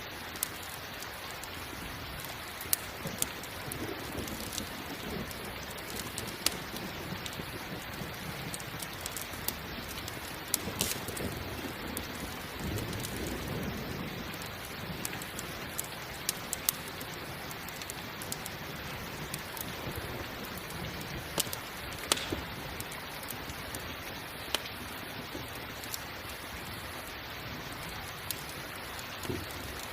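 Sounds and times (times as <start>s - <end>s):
campfire popping and crackling: 0.0s - 29.9s
steady rain: 0.0s - 29.9s.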